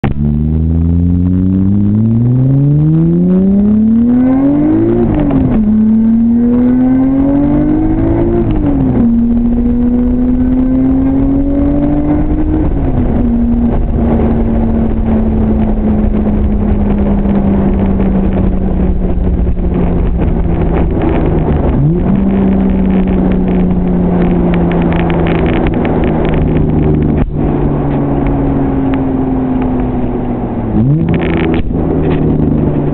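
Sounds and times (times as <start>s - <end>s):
car engine accelerating through gears: 0.0s - 32.9s.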